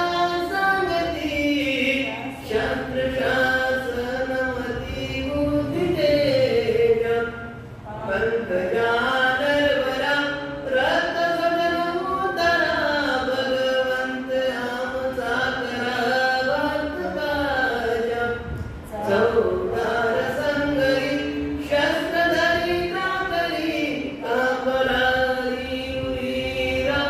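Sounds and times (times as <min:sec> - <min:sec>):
man chanting into a microphone: 0:00.0 - 0:27.0.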